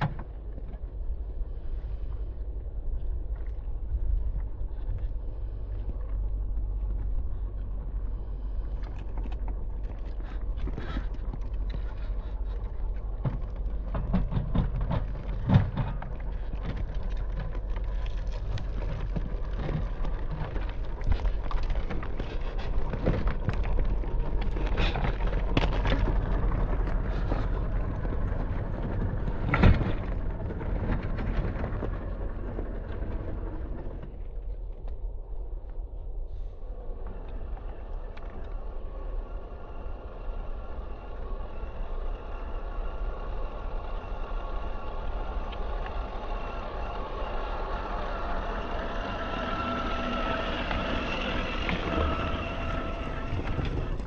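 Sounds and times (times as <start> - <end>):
low wind rumble: 0.0 - 54.0
toy truck crawling over gravel: 3.1 - 34.7, 37.1 - 54.0.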